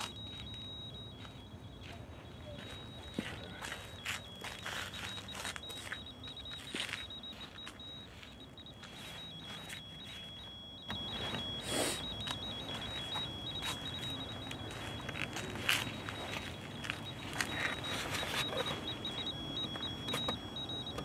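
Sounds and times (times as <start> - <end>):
high electronic warbling tone: 0.0 - 21.0
rustling and clicks of movement: 2.6 - 21.0.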